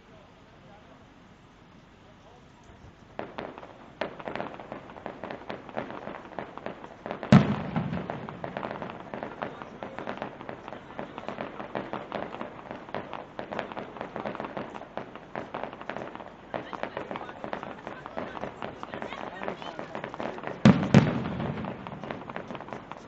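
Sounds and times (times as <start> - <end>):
firework crackles and pops: 1.4 - 23.0
loud firework boom: 3.2 - 23.0.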